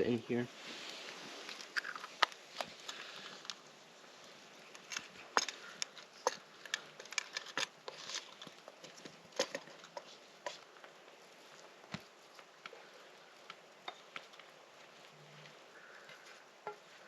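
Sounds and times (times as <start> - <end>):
faint hiss: 0.0 - 17.0
campfire crackling and popping: 0.6 - 17.0.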